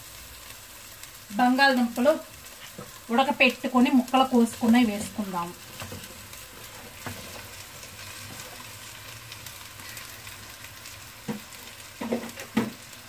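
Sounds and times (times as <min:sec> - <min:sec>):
paste sizzling softly: 0:00.0 - 0:13.0.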